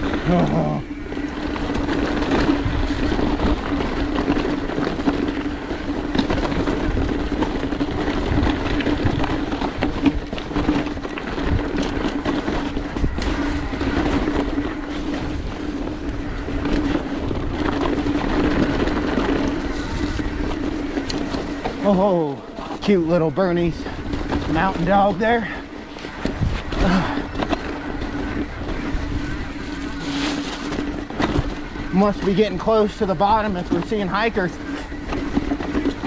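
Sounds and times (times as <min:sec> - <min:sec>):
bike tyres on dirt and rock: 0:00.0 - 0:36.0.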